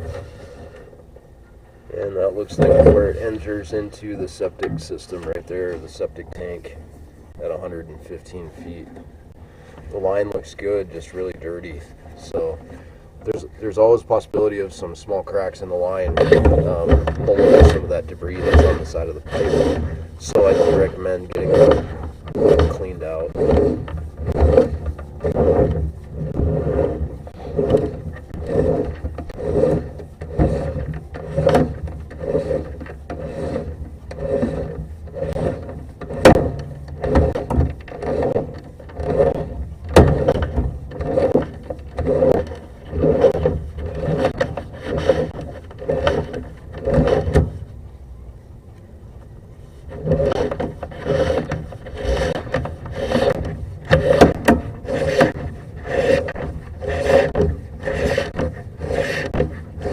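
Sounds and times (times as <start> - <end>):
cable scraping against pipe: 0.0 - 1.1, 1.9 - 47.8, 49.6 - 59.9.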